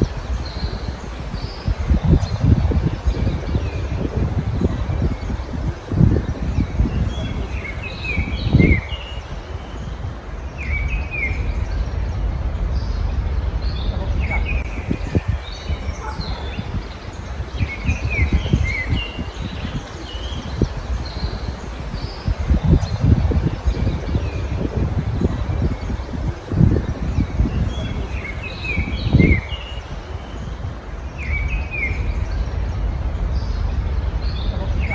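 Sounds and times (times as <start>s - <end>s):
songbirds chirping: 0.0s - 34.9s
steady low rumble: 0.0s - 34.9s.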